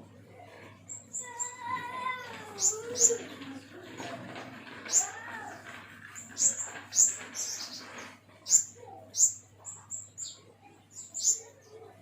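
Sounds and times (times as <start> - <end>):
songbird chirping: 0.5 - 12.0.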